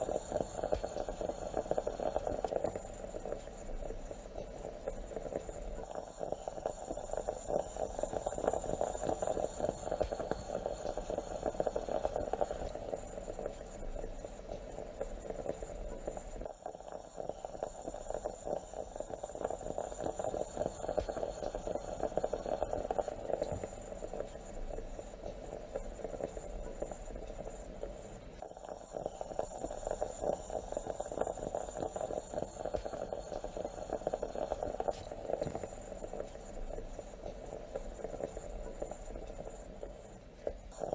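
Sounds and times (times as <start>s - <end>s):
moka pot gurgling and sputtering: 0.0s - 40.9s.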